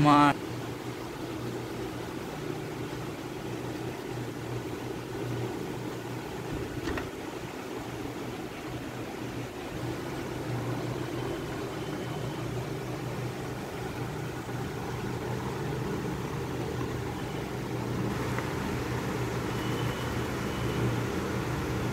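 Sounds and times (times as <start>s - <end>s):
low mechanical hum: 0.0s - 21.9s.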